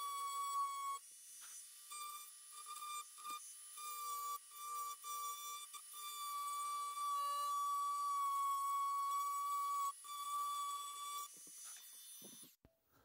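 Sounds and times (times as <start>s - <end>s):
rotary tool high-pitched whine: 0.0s - 12.6s.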